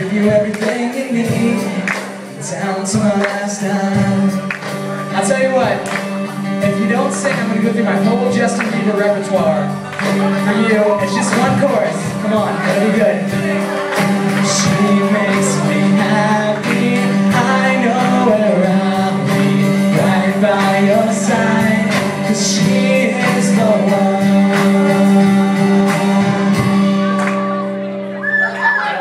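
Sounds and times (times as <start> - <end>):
steady beat: 0.0 - 27.6
person singing: 0.0 - 28.2
acoustic and electric guitars: 0.0 - 29.0.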